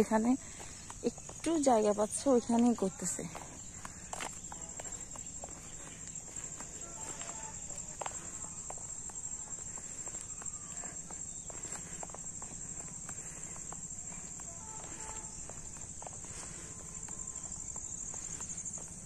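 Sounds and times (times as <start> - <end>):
footsteps on paved road: 0.0 - 19.0
high-pitched insect chirring: 3.6 - 18.9.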